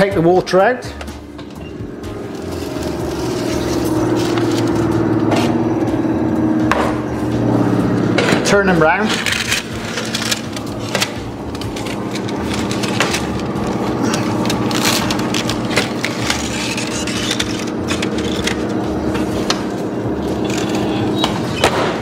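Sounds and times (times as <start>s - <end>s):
steady low hum: 0.8s - 22.0s
metal trays scraping oven racks: 1.5s - 6.0s, 7.2s - 21.7s.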